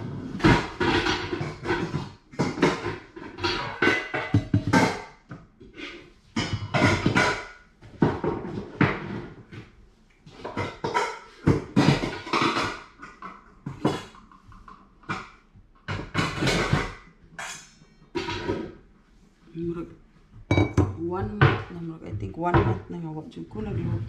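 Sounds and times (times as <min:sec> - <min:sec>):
cookware and dishes clattering: 0:00.0 - 0:18.9, 0:19.6 - 0:24.0.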